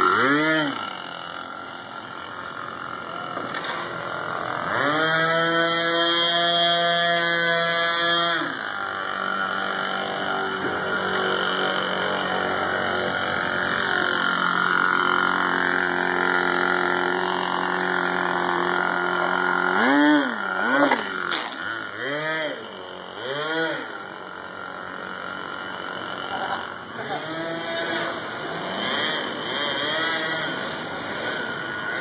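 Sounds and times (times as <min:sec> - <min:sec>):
small nitro engine idling and revving: 0:00.0 - 0:32.0.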